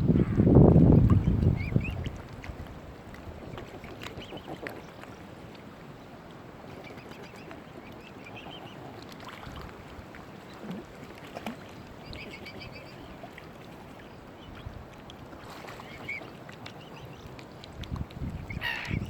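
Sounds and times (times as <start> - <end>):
water lapping at shore: 0.0 - 19.0.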